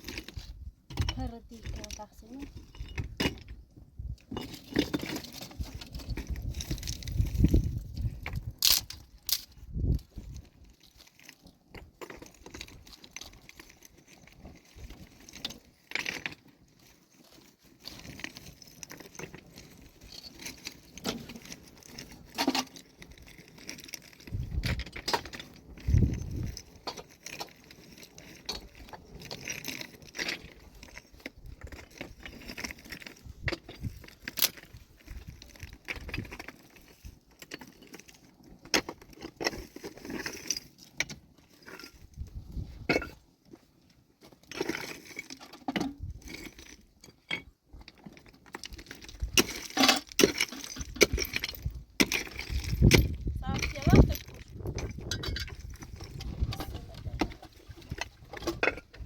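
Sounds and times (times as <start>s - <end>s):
rocks and metal tools clinking: 0.0s - 59.0s.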